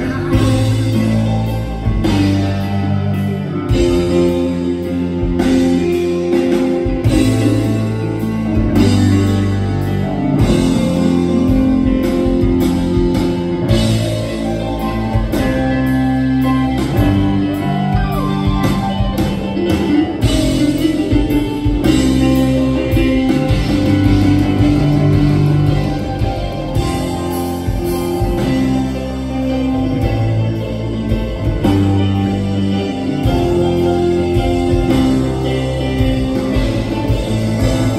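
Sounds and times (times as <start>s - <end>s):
electric bass notes: 0.0s - 37.9s
keyboard chords: 0.0s - 37.9s.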